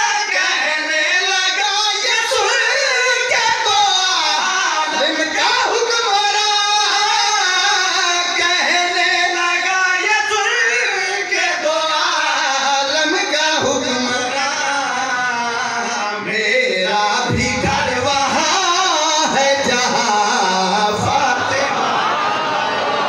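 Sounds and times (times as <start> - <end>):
man singing through microphone: 0.0 - 22.0.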